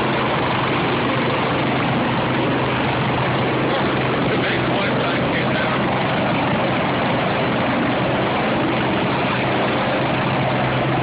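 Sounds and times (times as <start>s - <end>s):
helicopter turbine and rotor: 0.0s - 11.0s.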